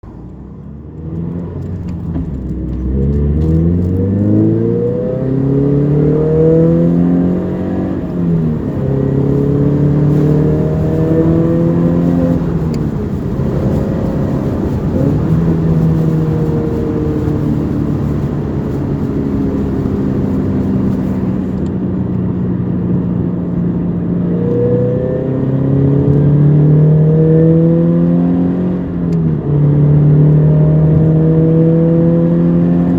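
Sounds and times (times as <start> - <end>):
car engine accelerating: 0.0 - 32.9.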